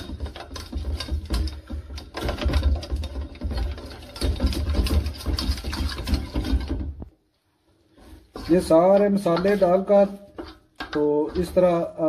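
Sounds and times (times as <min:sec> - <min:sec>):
spoon scraping a steel bowl: 0:00.0 - 0:06.8, 0:07.9 - 0:11.9.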